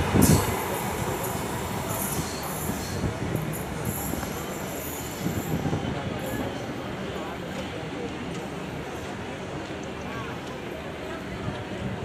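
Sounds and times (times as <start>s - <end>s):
passing train rumble: 0.0s - 12.0s.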